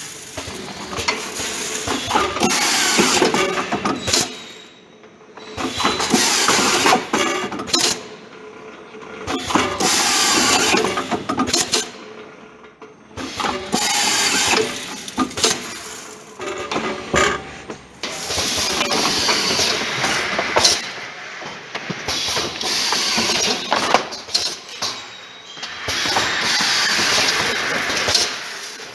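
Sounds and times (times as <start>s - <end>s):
screwdriving machine clatter and hiss: 0.0s - 4.4s, 5.5s - 8.1s, 9.2s - 11.9s, 13.2s - 25.0s, 25.6s - 28.9s.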